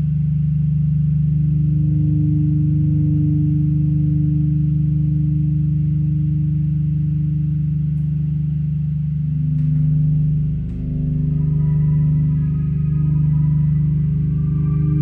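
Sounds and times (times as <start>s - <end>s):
low synthesizer drone: 0.0s - 15.0s.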